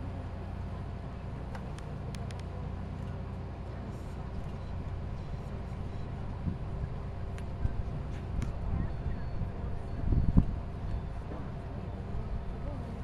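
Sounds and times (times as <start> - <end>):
outdoor arena rumble: 0.0 - 13.0.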